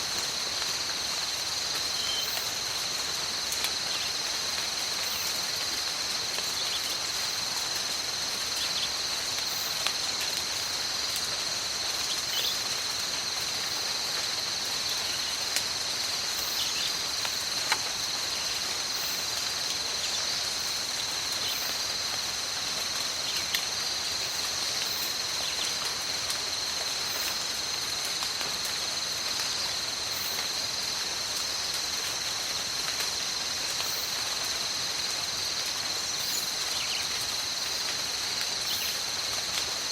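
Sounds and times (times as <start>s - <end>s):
high insect drone: 0.0s - 39.9s
steady rain falling: 0.0s - 39.9s.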